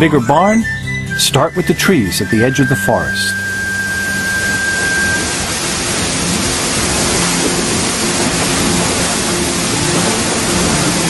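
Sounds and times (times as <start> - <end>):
water cascading off waterwheel: 1.4 - 11.0.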